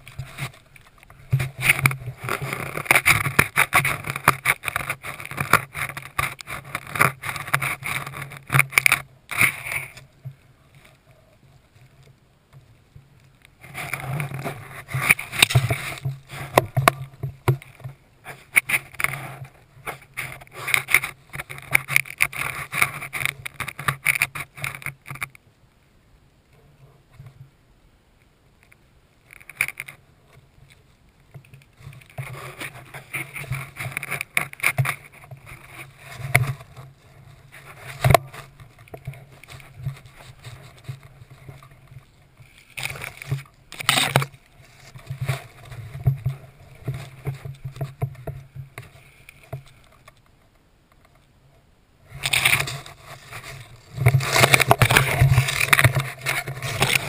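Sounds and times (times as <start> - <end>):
rustling on microphone: 0.0 - 25.8, 28.2 - 57.0.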